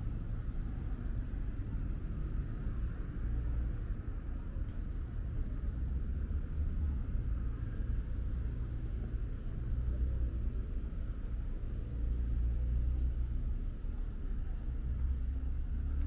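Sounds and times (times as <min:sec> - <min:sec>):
car traffic rumble: 0:00.0 - 0:16.0.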